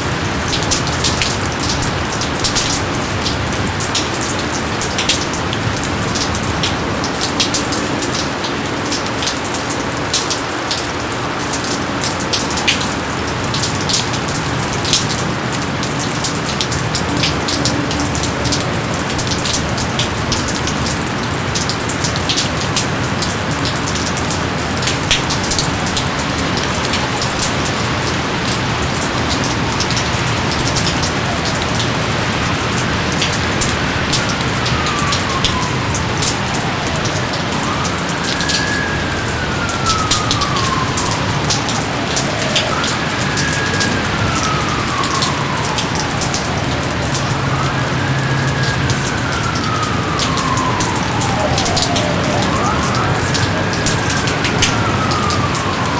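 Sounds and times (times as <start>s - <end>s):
downpour rushing: 0.0s - 55.9s
rain drops ticking: 0.0s - 55.9s.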